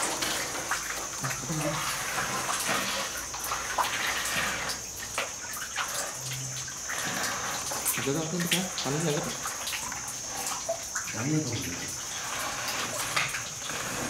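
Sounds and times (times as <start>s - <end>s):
water splashing in a well: 0.0s - 14.0s.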